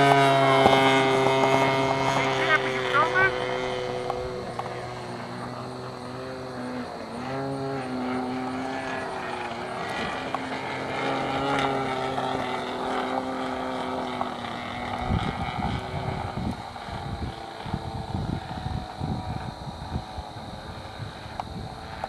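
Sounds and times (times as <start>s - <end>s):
model plane engine drone: 0.0s - 22.0s.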